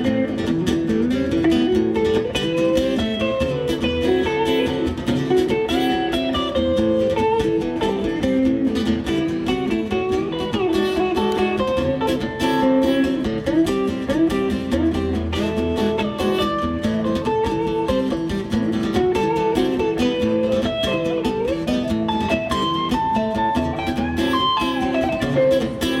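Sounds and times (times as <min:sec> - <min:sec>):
blues guitar lead: 0:00.0 - 0:26.0.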